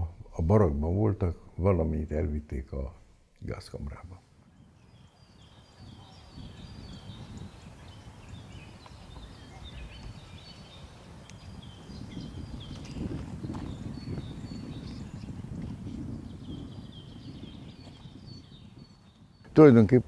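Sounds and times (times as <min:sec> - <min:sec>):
small birds chirping: 0:02.4 - 0:20.0.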